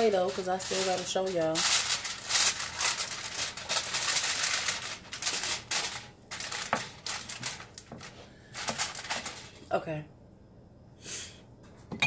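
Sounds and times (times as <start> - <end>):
aluminium foil crinkling: 0.0 - 9.7.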